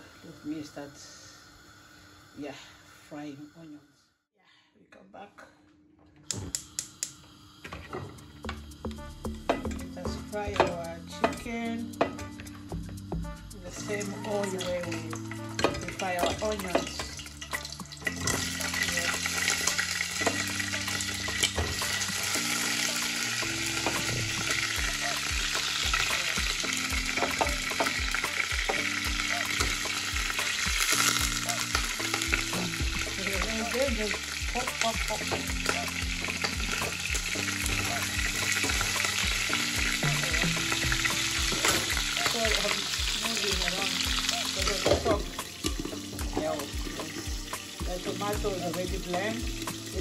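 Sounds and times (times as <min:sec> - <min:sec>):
chicken sizzling in hot oil: 0:00.0 - 0:02.9, 0:06.6 - 0:50.0
background music with bass line: 0:08.4 - 0:50.0.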